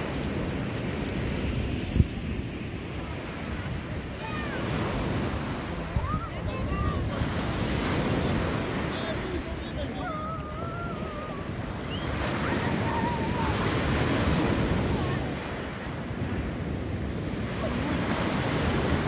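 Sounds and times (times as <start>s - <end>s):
waves breaking on pebble beach: 0.0s - 19.0s.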